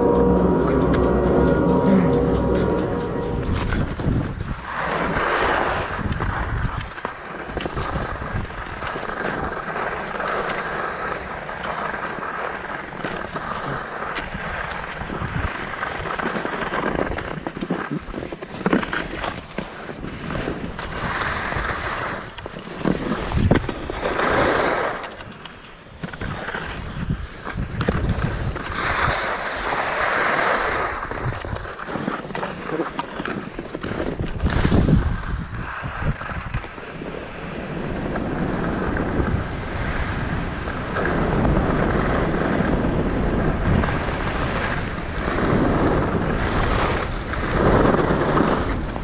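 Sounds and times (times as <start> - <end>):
skis scraping over snow: 3.4 - 49.0.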